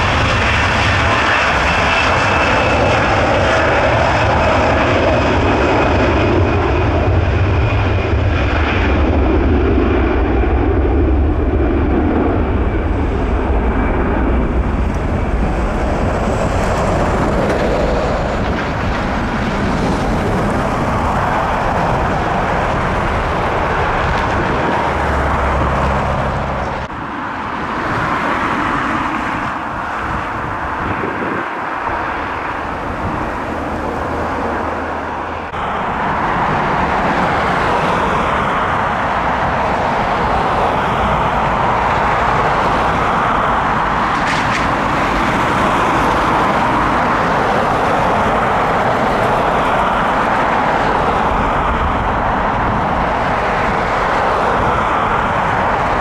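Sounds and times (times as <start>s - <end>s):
jet engines taxiing: 0.0s - 56.0s
rumbling airport engine noise: 0.0s - 56.0s.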